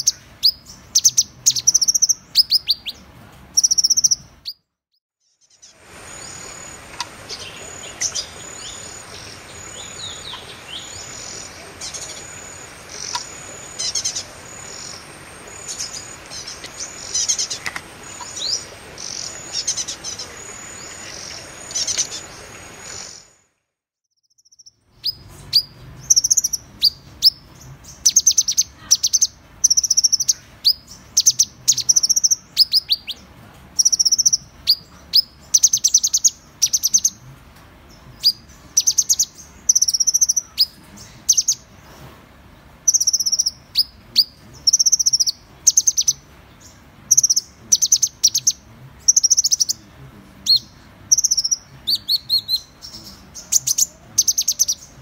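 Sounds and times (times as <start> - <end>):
bird chirping: 0.0 - 23.4, 24.2 - 37.2, 37.8 - 42.0, 42.8 - 55.0.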